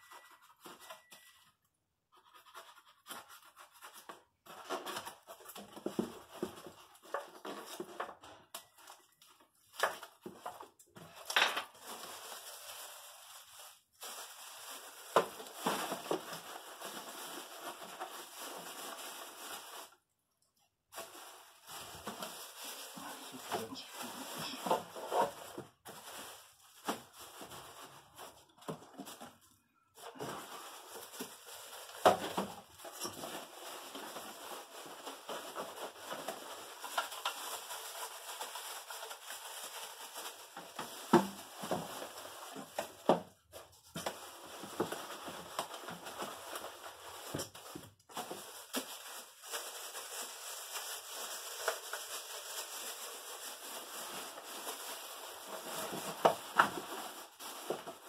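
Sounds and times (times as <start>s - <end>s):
plastic rustling: 2.2s - 58.0s.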